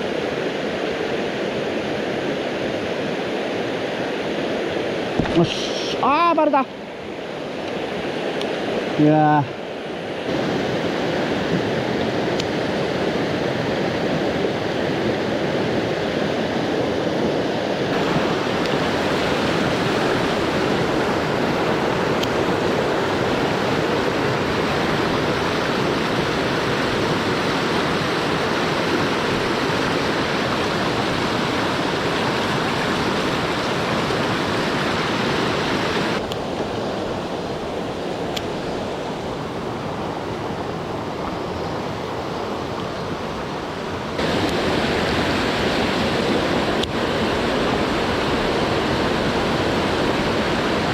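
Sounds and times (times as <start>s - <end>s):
rushing mountain stream: 0.0s - 50.9s.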